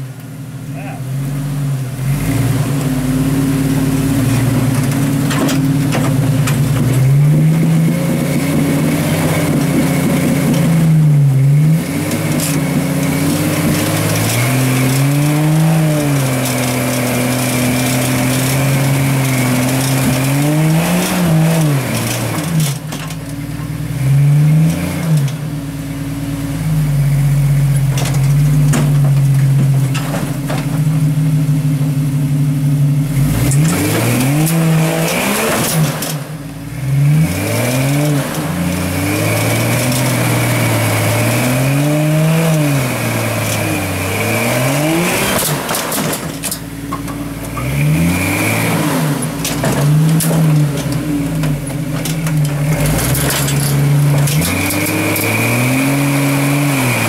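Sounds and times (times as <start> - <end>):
off-road buggy engine revving: 0.0 - 57.0.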